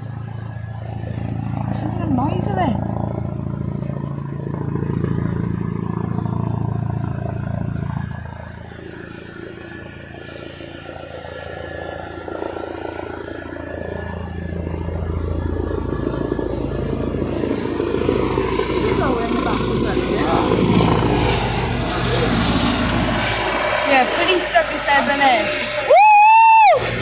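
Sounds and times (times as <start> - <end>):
helicopter hovering: 0.0 - 27.0.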